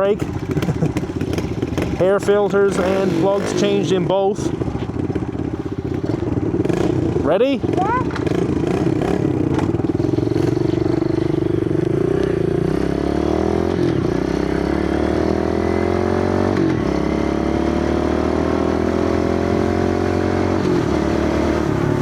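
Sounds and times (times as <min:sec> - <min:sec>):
small motorcycle engine accelerating: 0:00.0 - 0:22.0.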